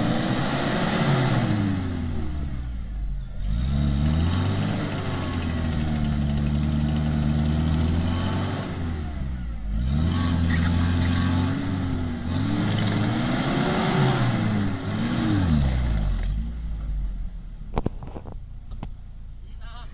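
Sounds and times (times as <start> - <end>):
car engine revving under load: 0.0 - 19.4.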